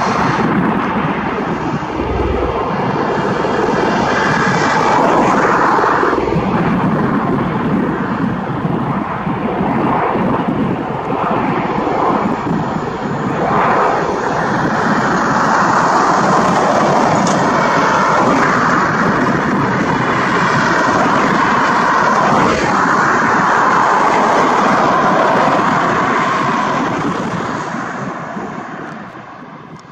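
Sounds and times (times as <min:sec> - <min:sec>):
tiltrotor aircraft engines and rotors: 0:00.0 - 0:29.9.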